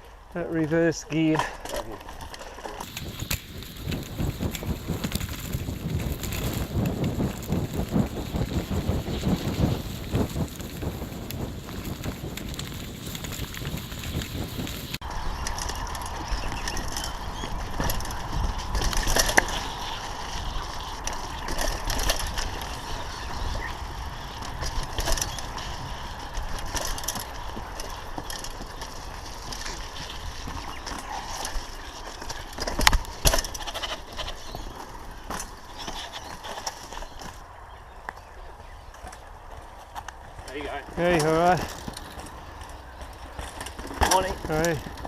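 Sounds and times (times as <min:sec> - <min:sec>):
bicycle tyre noise: 0:01.2 - 0:45.0.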